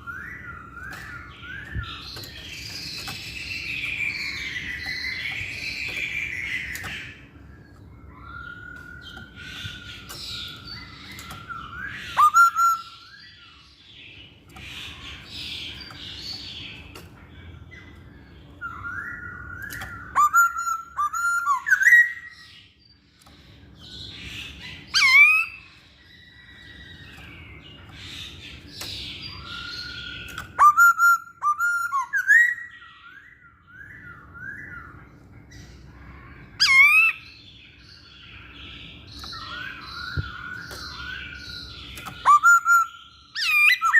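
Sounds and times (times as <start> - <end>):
bird singing whistled notes: 0.0 - 16.8, 17.7 - 23.1, 23.7 - 43.9
faint low background hum: 0.0 - 43.9.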